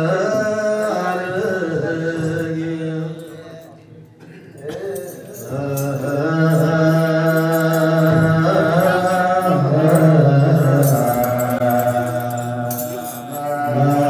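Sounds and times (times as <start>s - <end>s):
cantors chanting a hymn in unison: 0.0s - 3.6s, 4.6s - 14.0s.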